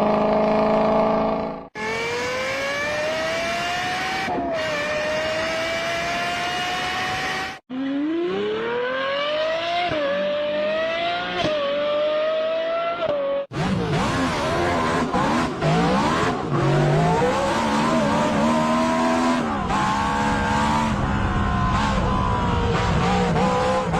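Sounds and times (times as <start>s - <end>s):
engine accelerating with gear shifts: 0.0s - 23.9s.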